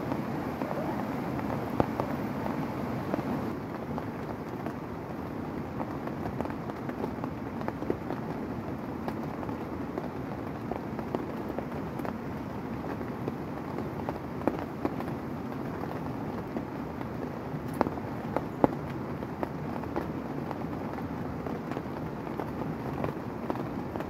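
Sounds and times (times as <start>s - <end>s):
heavy rain on a tent: 0.0s - 24.0s
raindrops ticking on fabric: 0.0s - 24.0s.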